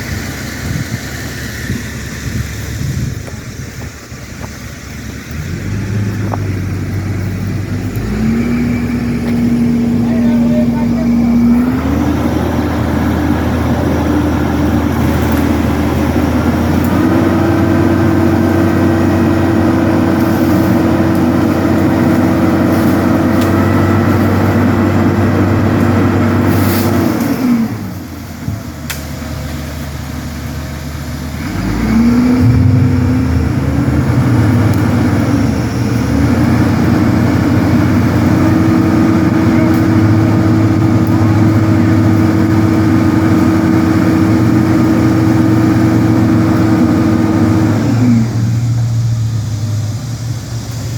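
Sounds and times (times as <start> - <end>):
engine revving and idling: 0.0 - 50.9.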